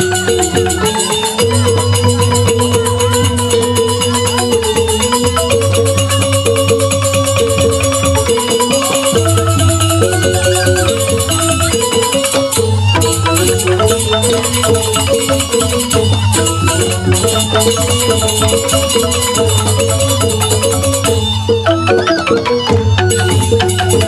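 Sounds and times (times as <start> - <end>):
bamboo flute: 0.0 - 24.0
bamboo xylophones playing: 0.0 - 24.0.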